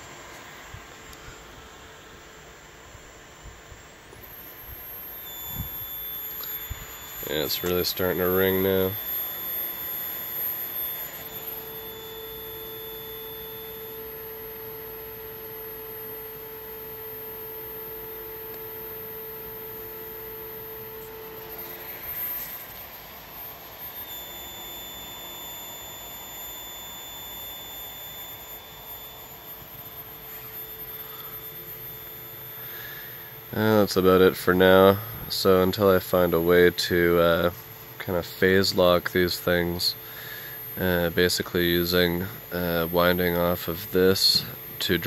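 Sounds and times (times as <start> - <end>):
transformer squealing whine: 3.8 - 45.0.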